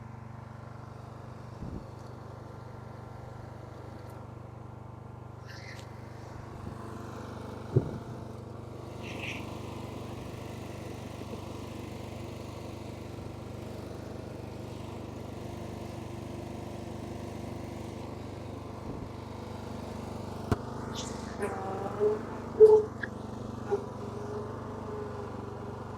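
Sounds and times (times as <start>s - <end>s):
lawn mower engine running: 0.0s - 25.9s.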